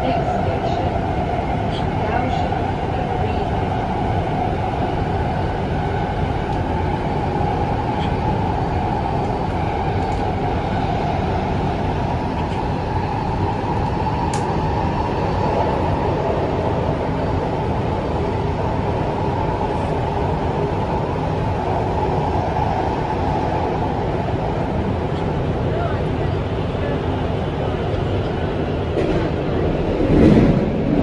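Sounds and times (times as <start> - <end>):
metro train running: 0.0 - 31.0.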